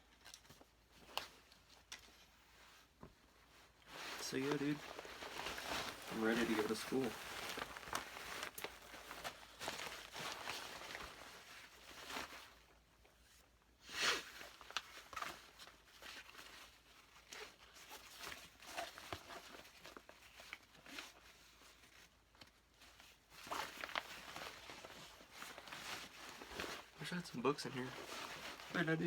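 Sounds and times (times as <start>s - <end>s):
faint rustling: 0.3s - 13.4s, 14.5s - 29.0s.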